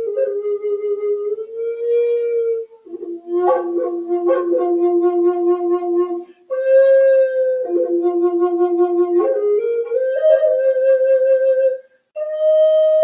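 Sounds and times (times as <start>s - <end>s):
solo flute melody: 0.0s - 13.0s.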